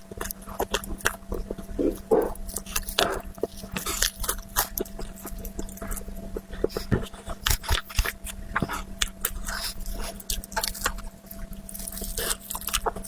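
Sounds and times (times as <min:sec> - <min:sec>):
chewing and mouth sounds: 0:00.0 - 0:13.0
faint steady hum: 0:00.0 - 0:13.0.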